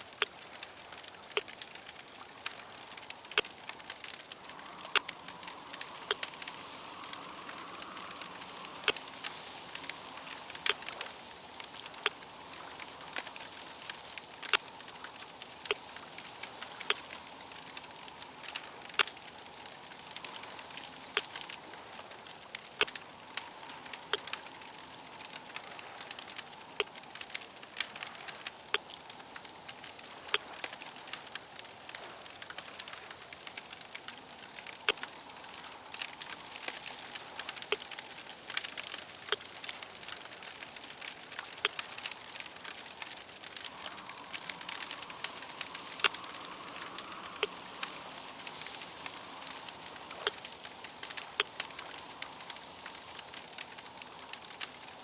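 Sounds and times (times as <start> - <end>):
fire crackling and popping: 0.0 - 55.0
steady fire hiss: 0.0 - 55.0.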